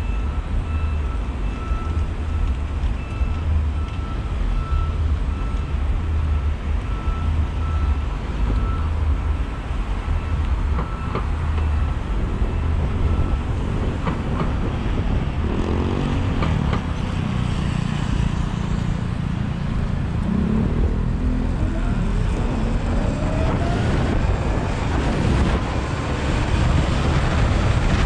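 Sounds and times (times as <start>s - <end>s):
wind and road rumble: 0.0s - 28.0s.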